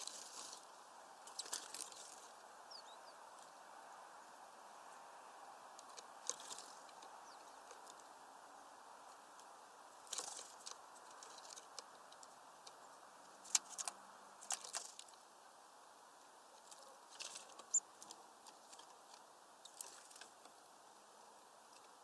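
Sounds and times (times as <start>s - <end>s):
birds tapping and rustling at feeder: 0.0s - 22.0s.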